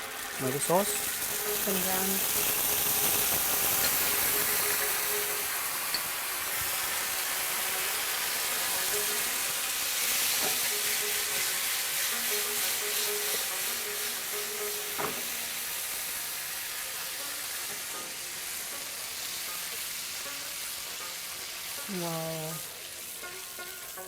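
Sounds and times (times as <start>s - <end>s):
oil sizzling in a pan: 0.0s - 24.0s.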